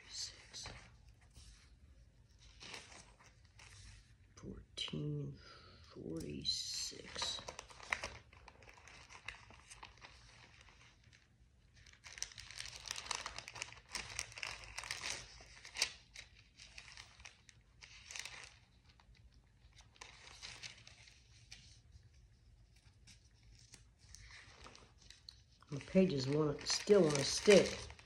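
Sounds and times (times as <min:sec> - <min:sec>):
pages rustling: 0:00.0 - 0:04.3, 0:06.2 - 0:28.0.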